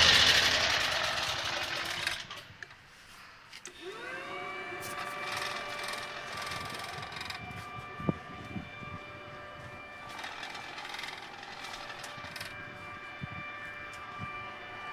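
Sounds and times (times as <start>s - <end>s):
generator engine dying away: 0.0s - 2.5s, 3.8s - 14.9s
electric blower whining: 0.0s - 2.7s, 3.6s - 14.9s.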